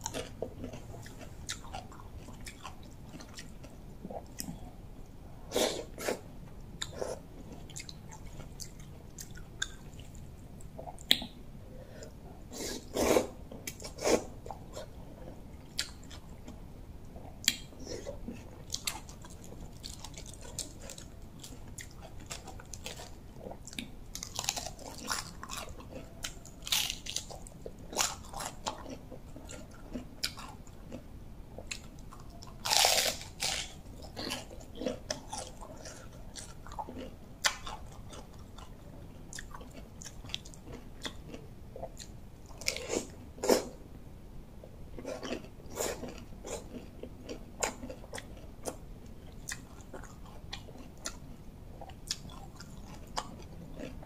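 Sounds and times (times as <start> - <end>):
crunching and chewing: 0.0 - 11.4, 12.0 - 43.8, 45.0 - 54.0.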